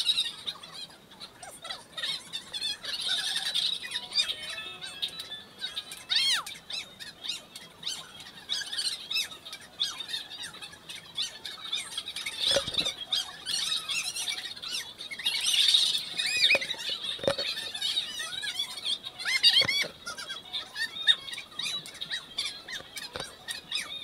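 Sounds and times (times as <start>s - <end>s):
birds chirping and squawking: 0.0s - 24.0s
louder low bird calls: 0.0s - 24.0s.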